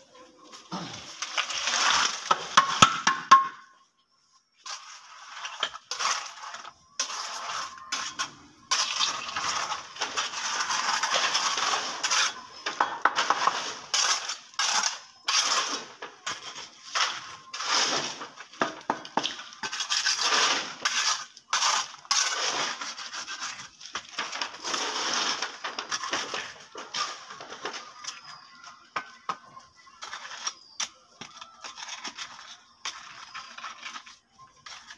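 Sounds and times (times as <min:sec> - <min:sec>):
trowel scraping wet concrete: 0:00.8 - 0:02.9, 0:04.6 - 0:28.5, 0:29.3 - 0:34.9.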